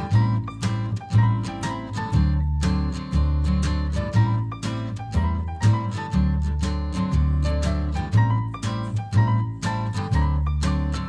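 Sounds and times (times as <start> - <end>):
bass line: 0.0 - 11.0
strummed acoustic guitar: 0.0 - 11.0.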